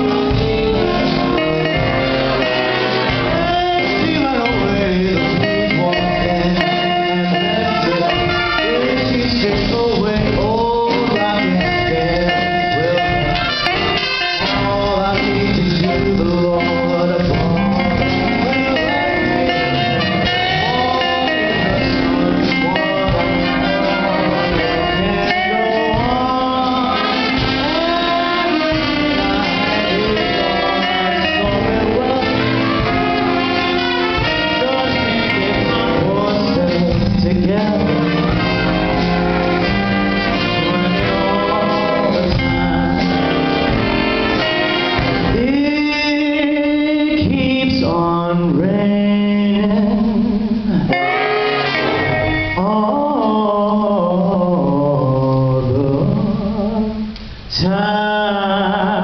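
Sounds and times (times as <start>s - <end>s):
person singing: 0.0s - 39.3s, 45.2s - 59.0s
jazz music with brass: 0.0s - 59.0s.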